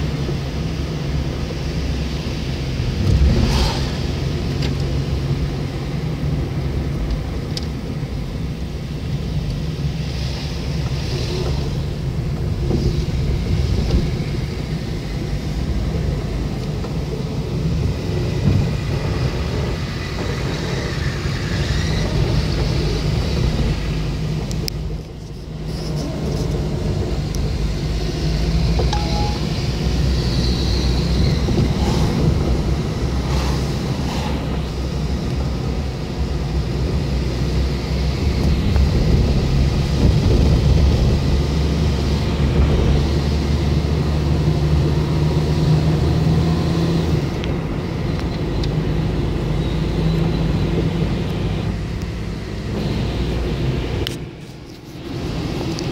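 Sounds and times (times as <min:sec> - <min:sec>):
car engine and tyre drone: 0:00.0 - 0:55.9.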